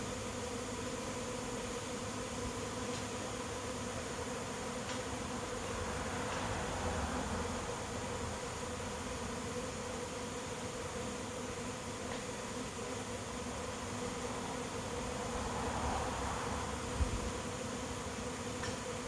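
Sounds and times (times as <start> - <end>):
swarm of bees buzzing: 0.0 - 19.0.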